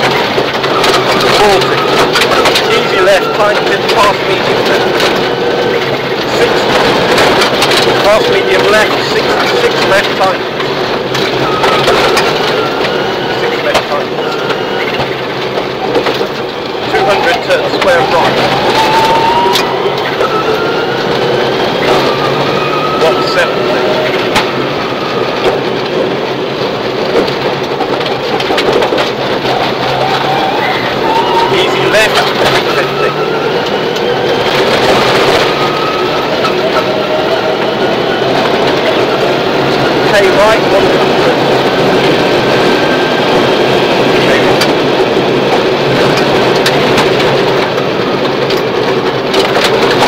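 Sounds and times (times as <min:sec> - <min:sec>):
rally car engine running: 0:00.0 - 0:50.0.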